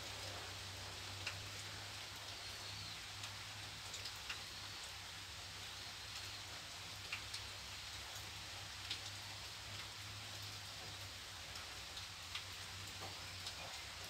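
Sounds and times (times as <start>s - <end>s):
rain falling on pond: 0.0s - 14.0s
raindrop ticks: 0.1s - 14.0s.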